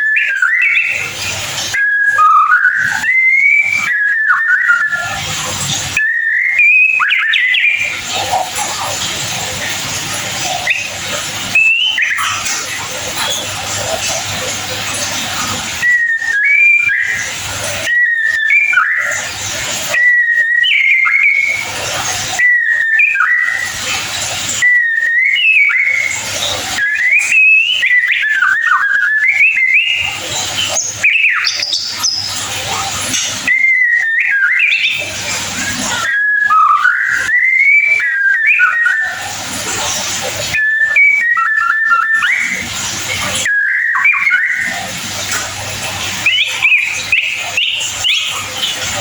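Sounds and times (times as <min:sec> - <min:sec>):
bird singing whistled phrases: 0:00.0 - 0:49.0.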